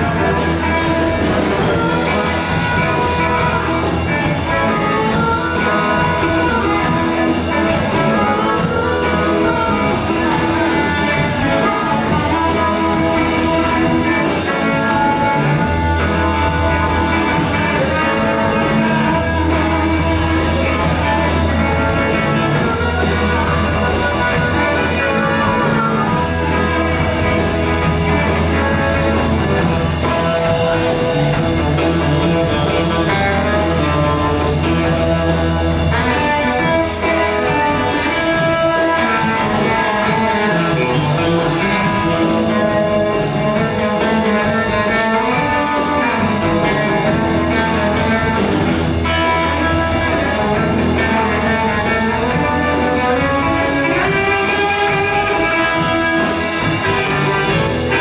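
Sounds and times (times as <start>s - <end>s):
drum kit: 0.0s - 58.0s
electric guitars: 0.0s - 58.0s
upright double bass: 0.0s - 58.0s.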